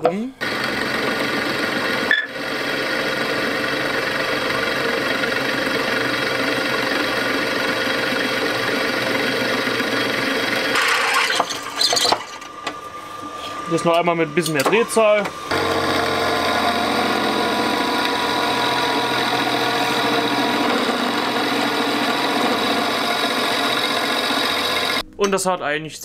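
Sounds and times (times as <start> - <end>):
electric drill boring into metal: 0.4 - 25.0.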